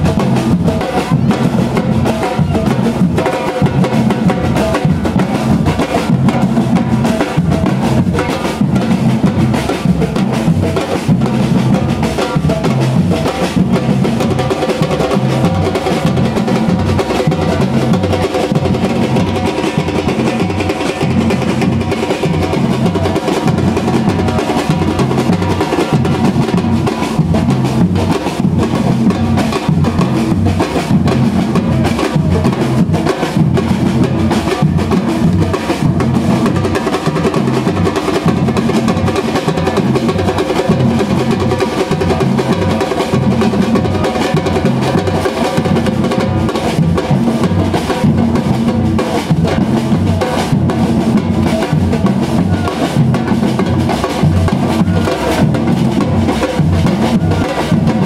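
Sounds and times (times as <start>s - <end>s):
drum band playing: 0.0s - 58.0s.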